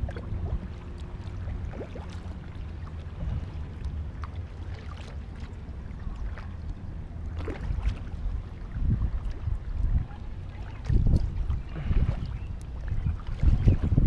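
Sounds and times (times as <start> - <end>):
low rumble: 0.0 - 14.0
paddle splashing water: 0.0 - 14.0.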